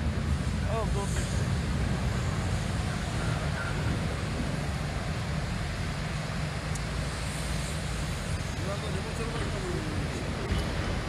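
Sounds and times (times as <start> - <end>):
ship engine low rumble: 0.0 - 11.0
wind buffeting microphone: 0.0 - 11.0.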